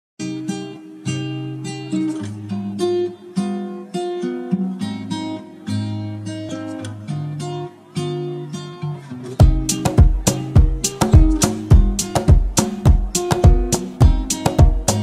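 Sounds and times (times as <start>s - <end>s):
acoustic guitar strumming chords: 0.2s - 15.0s.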